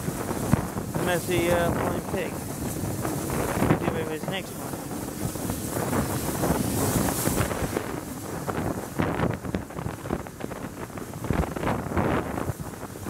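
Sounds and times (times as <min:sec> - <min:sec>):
steam train running: 0:00.0 - 0:11.2
wind buffeting microphone: 0:00.0 - 0:13.0.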